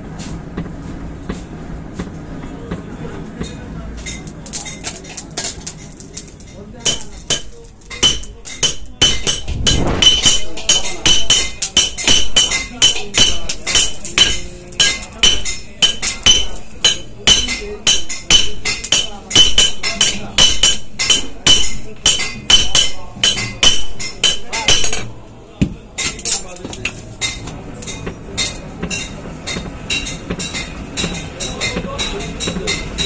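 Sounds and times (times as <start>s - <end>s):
hammer striking metal on anvil: 3.4s - 25.2s, 27.2s - 33.0s.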